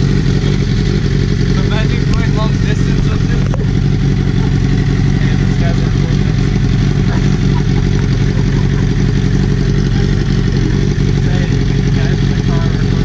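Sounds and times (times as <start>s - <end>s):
loud motorcycle engine running: 0.0s - 13.0s.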